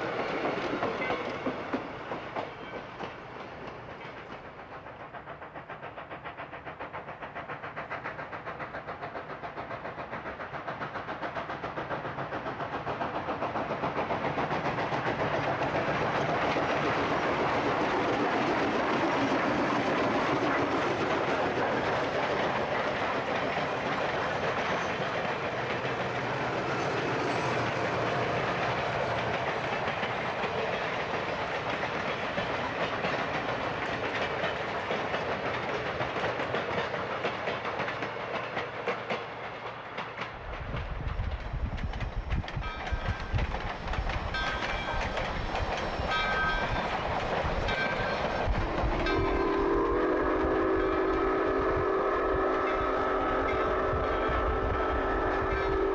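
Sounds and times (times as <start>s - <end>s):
steam train passing: 0.0s - 55.9s
train cars over rail joints: 0.0s - 55.9s.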